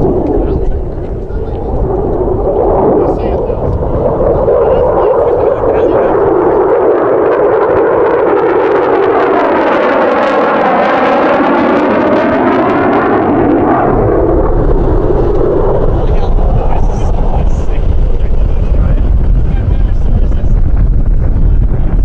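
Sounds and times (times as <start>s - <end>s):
jet engines flying past: 0.0s - 22.0s.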